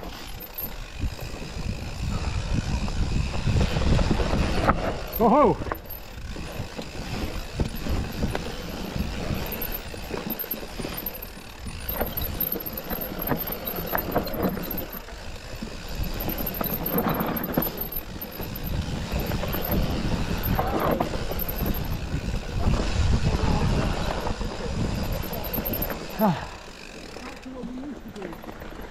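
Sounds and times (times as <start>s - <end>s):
bike chain and frame rattling: 0.0s - 28.9s
tyres rumbling on dirt: 0.0s - 28.9s.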